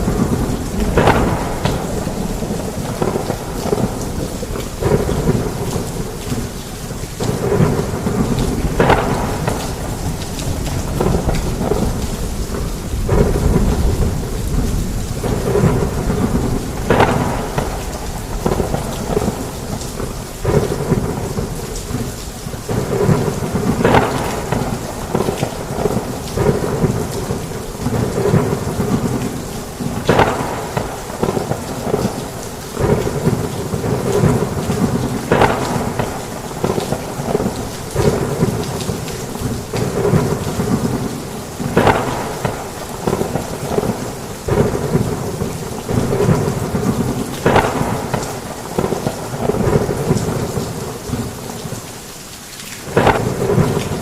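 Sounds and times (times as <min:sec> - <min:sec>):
sharp thunder cracks: 0:00.0 - 0:06.6, 0:07.2 - 0:51.4, 0:52.8 - 0:54.0
thunder rumbling: 0:00.0 - 0:51.8, 0:52.8 - 0:54.0
heavy rain on a roof: 0:00.0 - 0:54.0.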